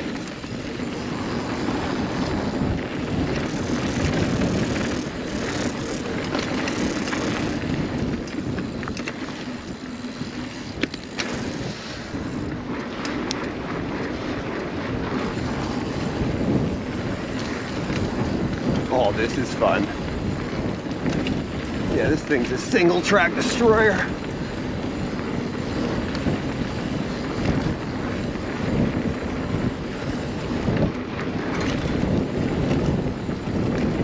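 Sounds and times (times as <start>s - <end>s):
bike tyres rolling on dirt: 0.0s - 34.0s
wind on microphone: 0.0s - 34.0s.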